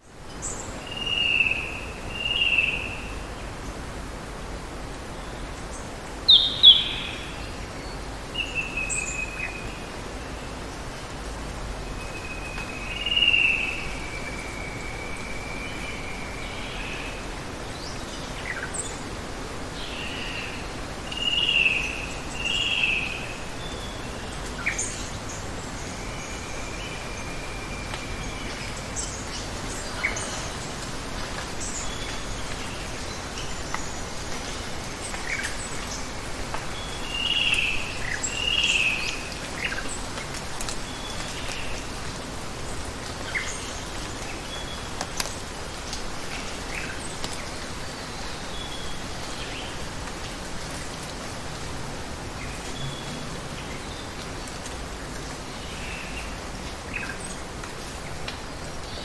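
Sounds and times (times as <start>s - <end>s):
running water or rain hiss: 0.0s - 59.0s.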